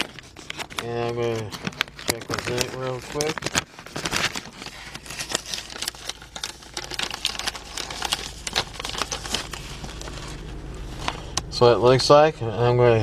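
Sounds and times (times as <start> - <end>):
snack bag crinkling: 0.0 - 11.2.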